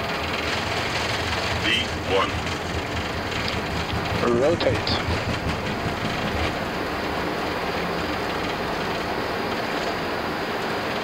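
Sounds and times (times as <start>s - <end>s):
jet engines roaring: 0.0s - 11.0s
wheels rumbling on runway: 0.0s - 11.0s.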